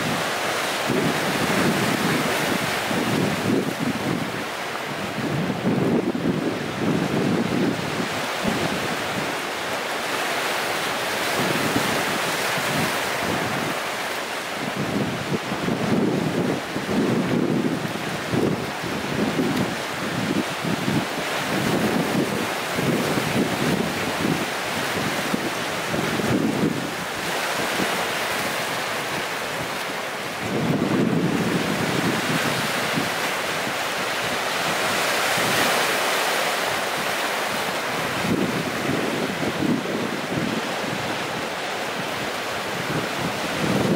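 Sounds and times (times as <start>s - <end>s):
wind rumbling on microphone: 0.0s - 10.2s, 10.8s - 43.9s
waves breaking on rocks: 0.0s - 43.9s.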